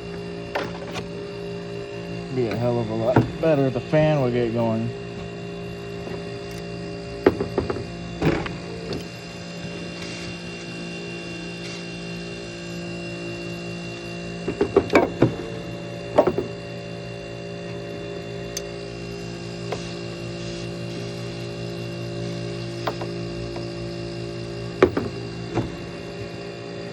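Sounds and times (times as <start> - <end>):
air conditioner humming: 0.0 - 26.9.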